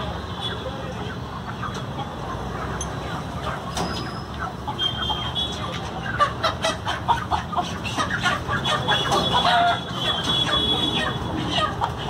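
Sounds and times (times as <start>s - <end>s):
fowl clucking: 0.9s - 12.0s.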